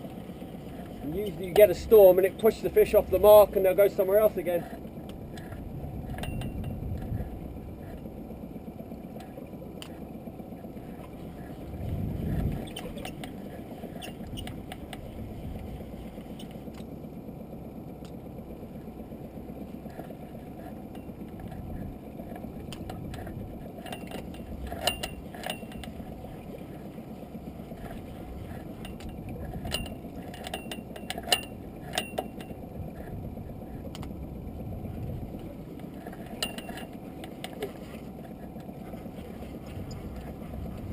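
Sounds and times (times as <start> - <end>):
sea washing around boat: 0.0 - 40.9.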